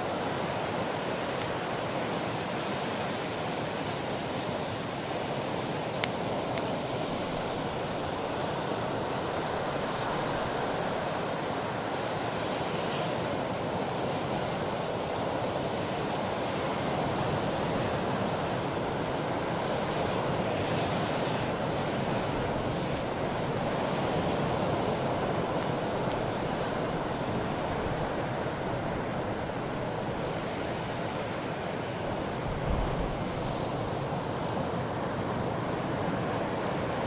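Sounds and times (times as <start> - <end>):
surf breaking on a beach: 0.0 - 37.0.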